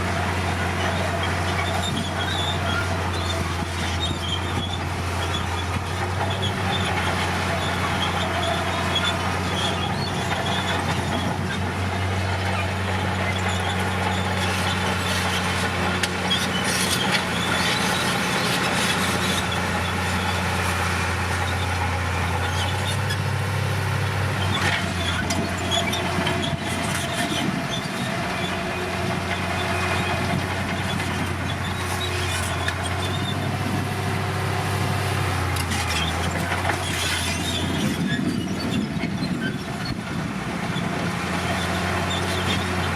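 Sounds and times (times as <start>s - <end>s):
bulldozer diesel engine running: 0.0s - 42.9s
steel tracks squeaking and clanking: 0.1s - 23.6s, 24.2s - 42.9s.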